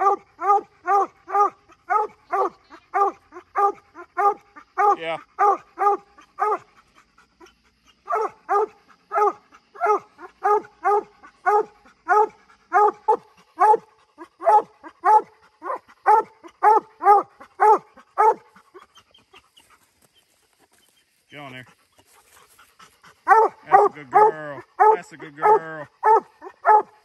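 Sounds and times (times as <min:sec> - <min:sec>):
dog barking: 0:00.0 - 0:06.7, 0:07.4 - 0:18.8, 0:23.2 - 0:27.0.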